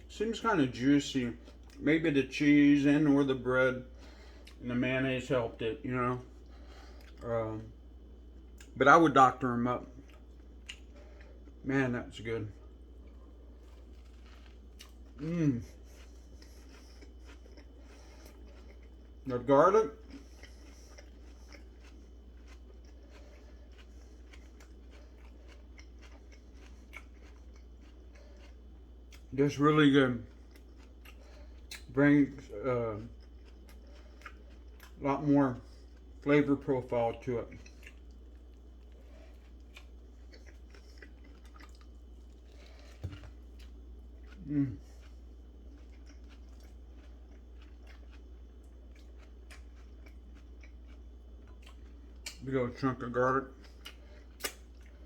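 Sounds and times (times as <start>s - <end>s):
chewing crunchy food: 0.0s - 55.0s
low steady hum: 0.0s - 55.0s.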